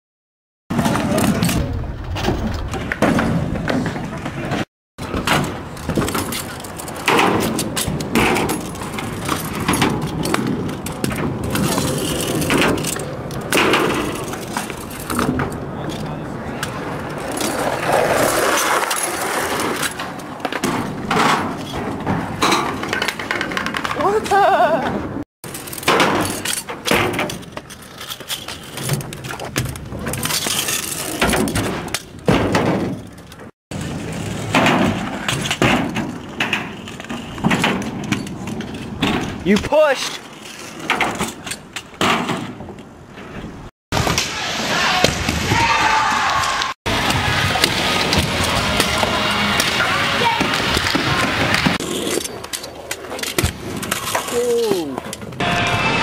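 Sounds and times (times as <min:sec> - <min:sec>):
scooter wheels rolling on concrete: 0:00.7 - 0:43.7, 0:44.6 - 0:56.0.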